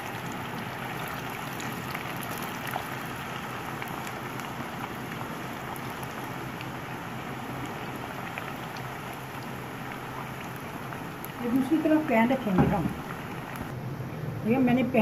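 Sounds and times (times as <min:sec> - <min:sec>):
crackles and pops of frying: 0:00.0 - 0:13.7
fries sizzling in hot oil: 0:00.0 - 0:13.7.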